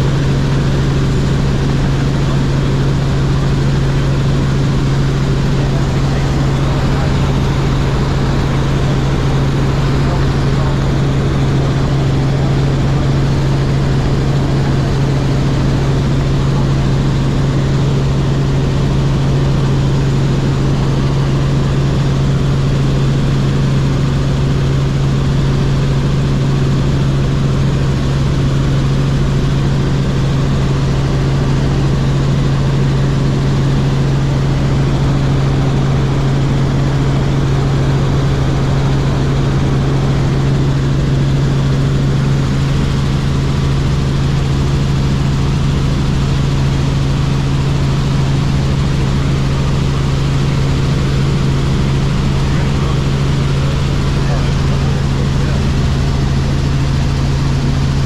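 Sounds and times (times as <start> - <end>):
helicopter cabin drone: 0.0 - 58.0.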